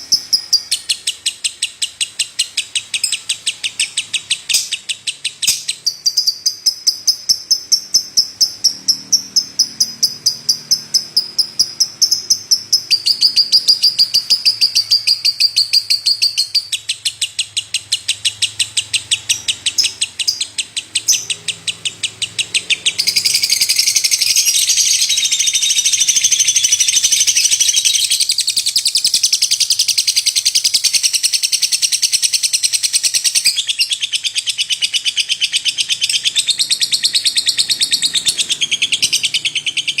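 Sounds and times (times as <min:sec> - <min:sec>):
lovebird chirping: 0:00.0 - 0:40.0.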